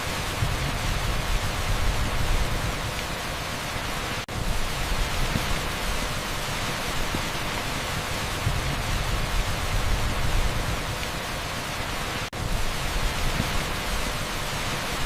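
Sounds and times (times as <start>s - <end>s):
torrential rain on asphalt: 0.0s - 15.0s.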